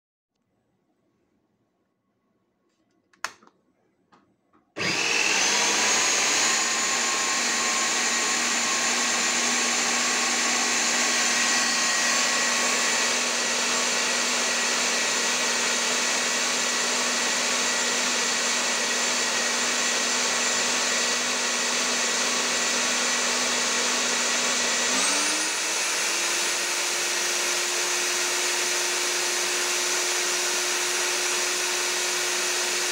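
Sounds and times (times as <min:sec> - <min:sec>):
core drill motor running: 0:04.8 - 0:32.9.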